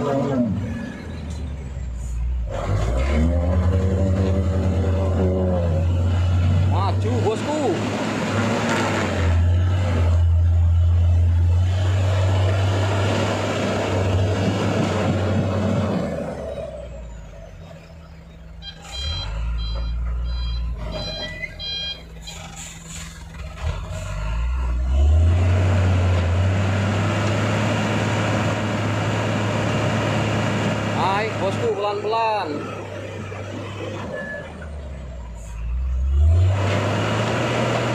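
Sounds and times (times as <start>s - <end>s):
diesel truck engine labouring: 0.0s - 37.9s.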